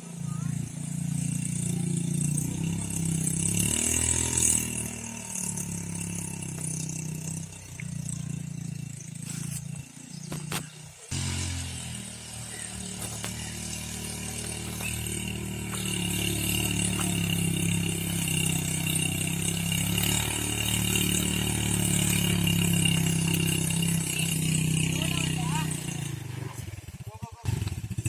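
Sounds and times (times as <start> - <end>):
high engine whine: 0.0 - 26.3
atv engine running: 0.0 - 28.0.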